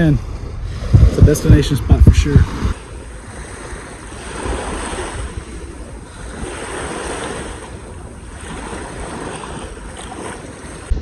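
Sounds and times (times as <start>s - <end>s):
waves lapping on sandy shore: 0.0s - 11.0s
wind rumbling on microphone: 0.0s - 11.0s.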